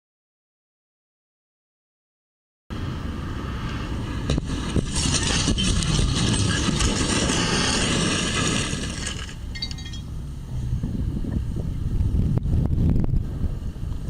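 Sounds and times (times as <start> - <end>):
car road and engine rumble: 2.7 - 14.0.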